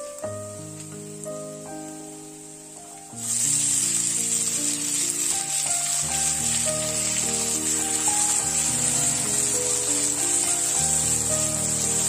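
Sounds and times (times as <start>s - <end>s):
background music: 0.0s - 12.0s
food sizzling in a wok: 0.0s - 12.0s.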